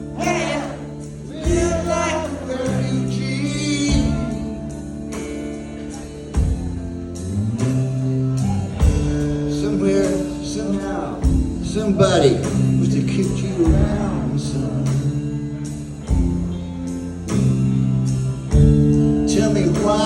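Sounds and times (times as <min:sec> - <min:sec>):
electric guitars and bass: 0:00.0 - 0:20.0.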